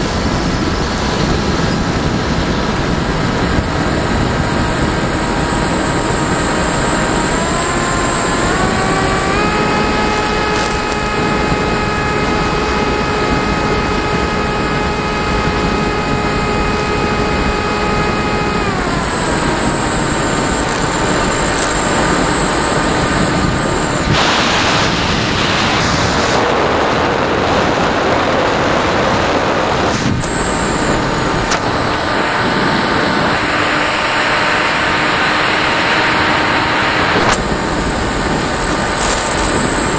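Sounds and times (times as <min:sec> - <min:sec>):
motor and propeller whine: 0:00.0 - 0:39.9
wind rushing over microphone: 0:00.0 - 0:39.9.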